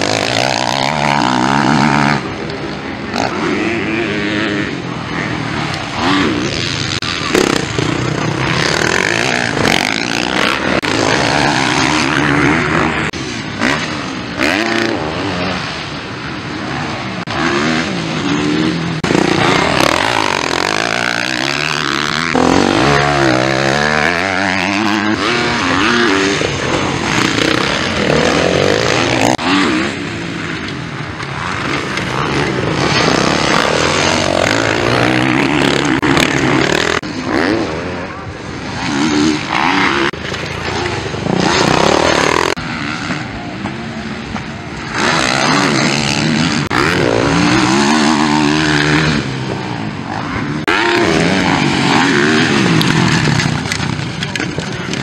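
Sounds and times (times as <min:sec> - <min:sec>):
motocross engines revving: 0:00.0 - 0:55.0.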